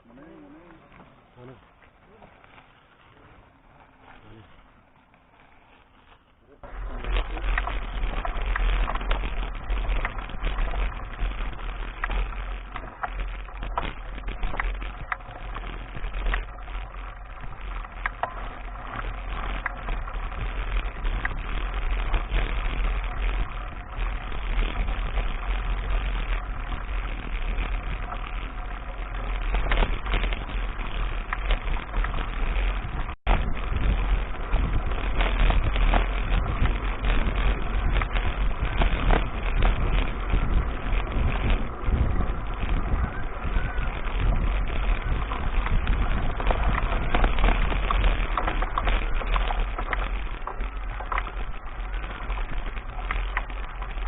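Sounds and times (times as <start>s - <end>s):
bike rattling and clicking: 0.0s - 54.0s
wind buffeting microphone: 6.6s - 54.0s.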